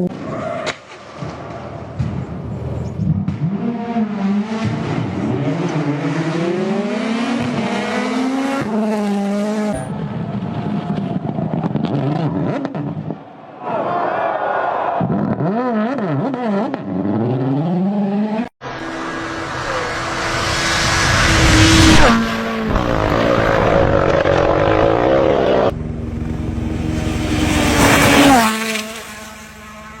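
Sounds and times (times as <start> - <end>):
rally cars passing at full throttle: 0.0 - 30.0.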